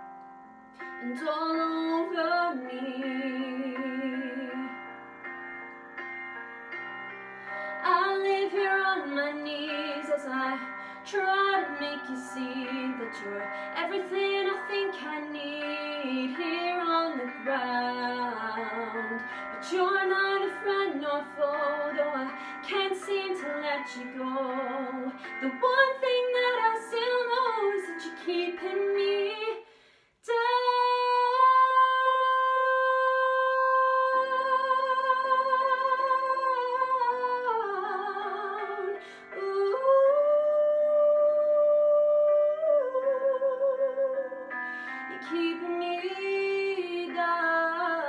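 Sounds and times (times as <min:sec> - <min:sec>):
woman singing: 0:01.0 - 0:04.9, 0:07.8 - 0:48.0.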